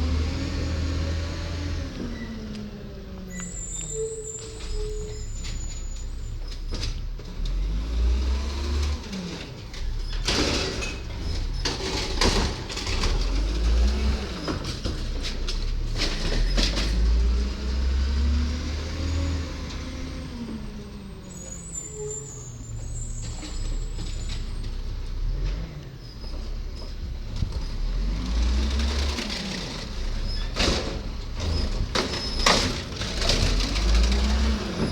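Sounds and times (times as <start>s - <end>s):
garbage truck engine revving: 0.0s - 6.3s, 6.9s - 34.9s.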